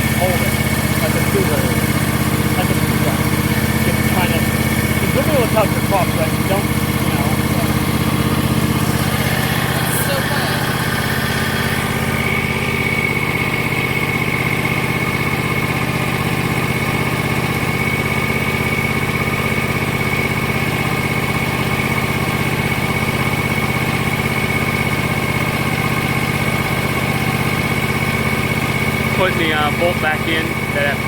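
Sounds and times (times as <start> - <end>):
small engine idling: 0.0 - 31.0.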